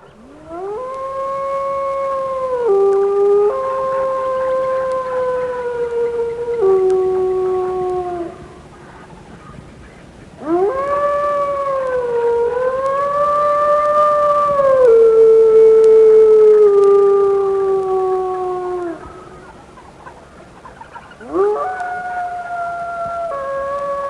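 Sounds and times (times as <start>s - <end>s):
dog howling: 0.2s - 8.4s, 10.4s - 19.1s, 21.2s - 24.0s.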